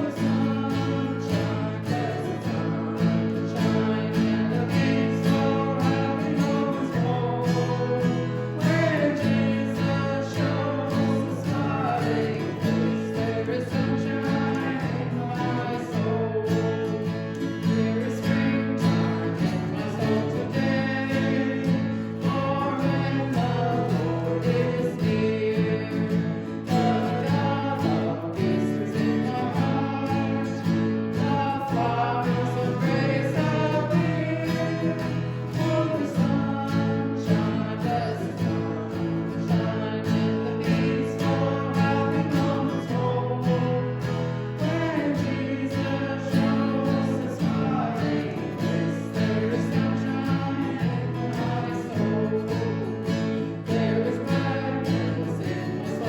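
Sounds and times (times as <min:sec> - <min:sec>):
person singing: 0:00.0 - 0:56.0
strummed acoustic guitar: 0:00.0 - 0:56.0.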